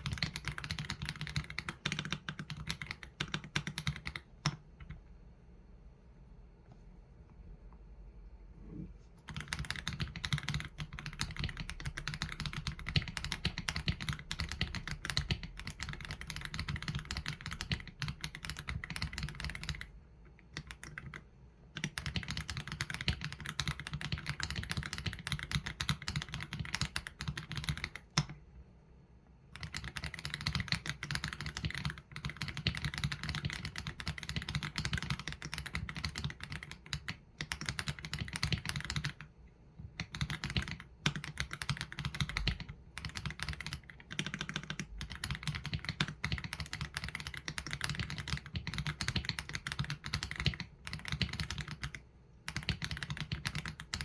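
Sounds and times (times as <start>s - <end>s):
mechanical keyboard typing: 0.0s - 5.0s, 9.2s - 28.4s, 29.5s - 54.0s.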